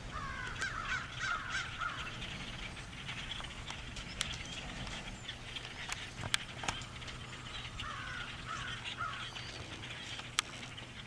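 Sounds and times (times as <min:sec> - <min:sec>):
flock of songbirds chattering: 0:00.0 - 0:11.0.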